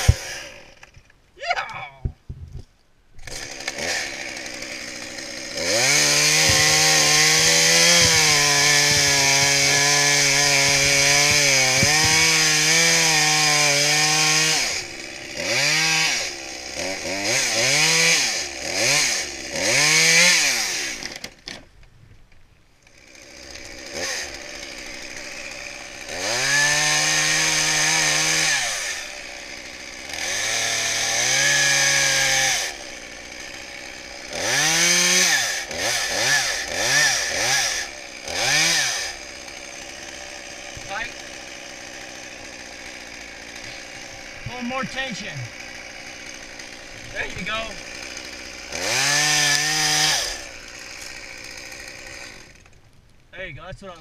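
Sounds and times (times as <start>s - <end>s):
chainsaw revving: 0.0s - 1.0s, 3.2s - 21.5s, 22.8s - 52.8s.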